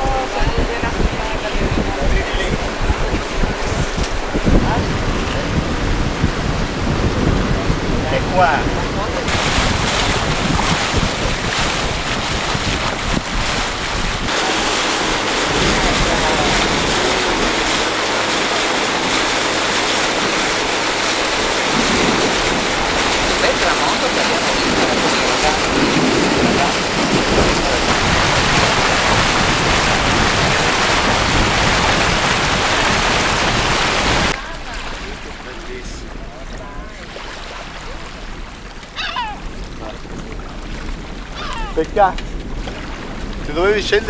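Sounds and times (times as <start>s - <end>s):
water rushing past boat hull: 0.0s - 44.0s
wind buffeting microphone: 0.0s - 44.0s.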